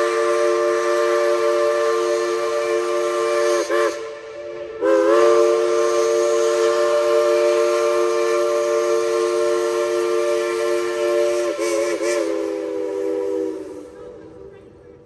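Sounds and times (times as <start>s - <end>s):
steam locomotive chime whistle: 0.0s - 14.0s.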